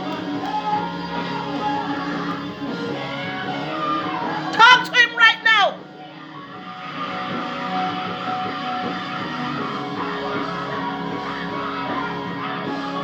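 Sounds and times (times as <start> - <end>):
instrumental worship music: 0.0 - 13.0.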